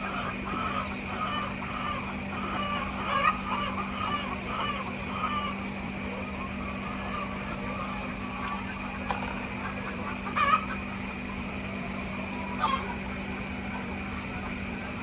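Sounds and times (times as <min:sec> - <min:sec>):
chicken clucking: 0:00.0 - 0:15.0
noisy background: 0:00.0 - 0:15.0.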